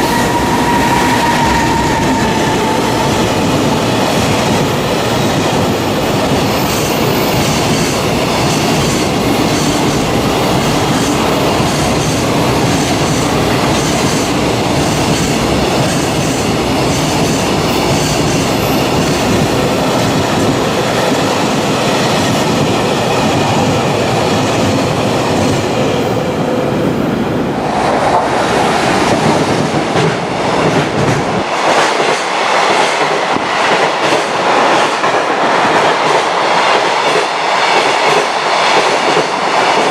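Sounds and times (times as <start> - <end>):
freight train rolling rail noise: 0.0 - 39.9.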